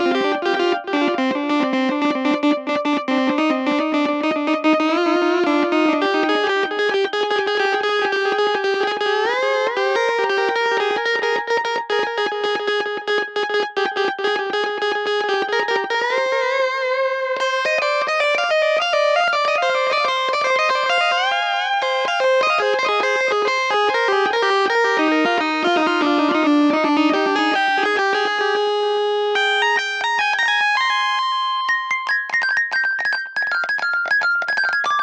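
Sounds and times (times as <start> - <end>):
plucked guitar melody: 0.0 - 35.0.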